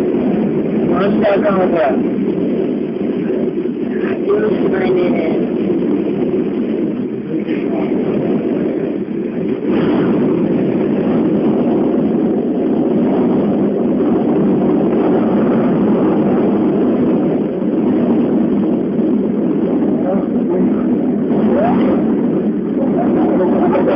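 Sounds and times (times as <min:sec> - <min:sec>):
strong wind against gondola cabin: 0:00.0 - 0:23.9.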